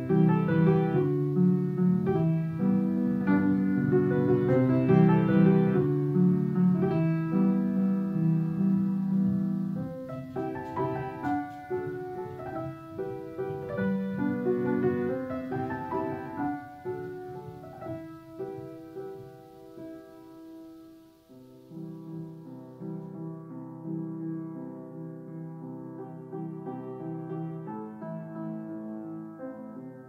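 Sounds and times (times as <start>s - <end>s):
slow solo piano: 0.0s - 30.0s.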